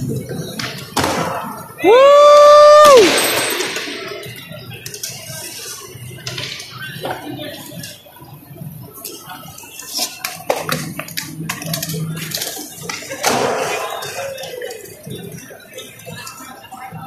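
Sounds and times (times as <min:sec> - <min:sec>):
skateboards clacking on floor: 0:00.0 - 0:01.7, 0:03.0 - 0:16.7.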